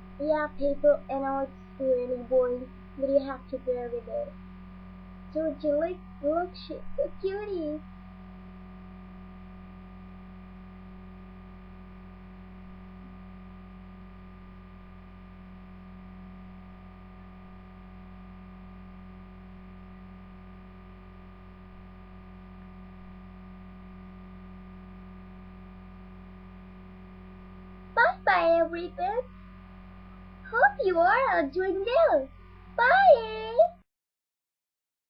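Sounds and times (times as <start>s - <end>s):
electrical hum: 0.0s - 33.8s.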